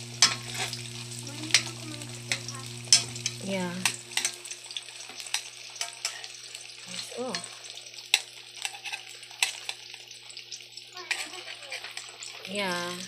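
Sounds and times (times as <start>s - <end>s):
ham sizzling in hot oil: 0.0s - 13.0s.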